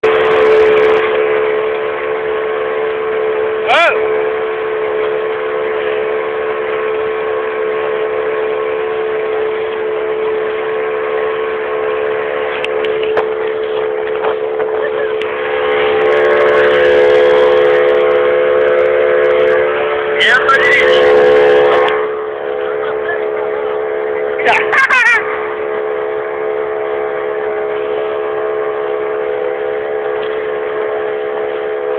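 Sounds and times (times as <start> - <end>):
boat motor running: 0.0 - 31.9.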